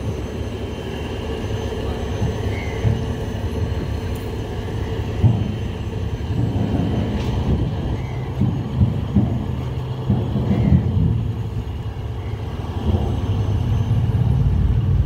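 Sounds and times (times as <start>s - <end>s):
heavy vehicle engines rumbling: 0.0s - 15.0s.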